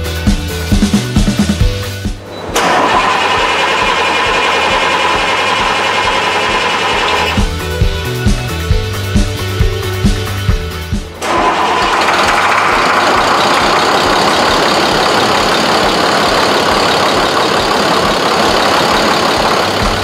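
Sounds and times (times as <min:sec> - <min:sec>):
background music: 0:00.0 - 0:20.0
diesel engine running: 0:00.0 - 0:20.0.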